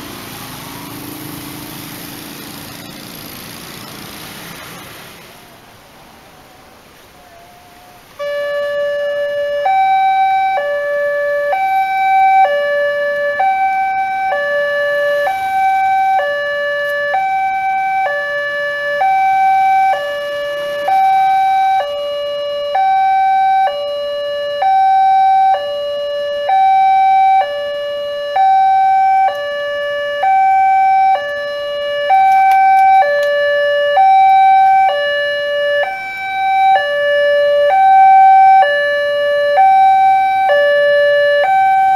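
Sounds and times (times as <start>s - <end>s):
two-tone level crossing alarm: 7.4s - 41.9s.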